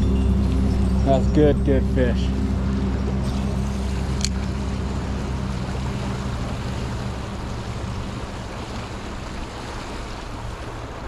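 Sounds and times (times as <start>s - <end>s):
low hum: 0.0s - 11.0s
river current rushing: 0.0s - 11.0s.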